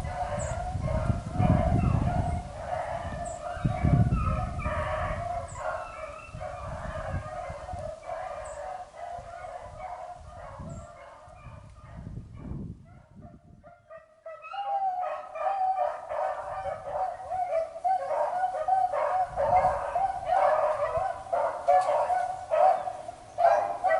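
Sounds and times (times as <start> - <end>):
hounds baying: 0.0 - 12.0, 12.9 - 23.9.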